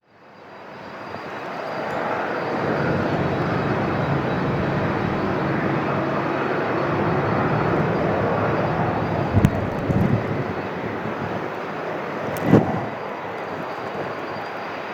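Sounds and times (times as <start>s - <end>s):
jet engine roar: 0.2s - 14.9s.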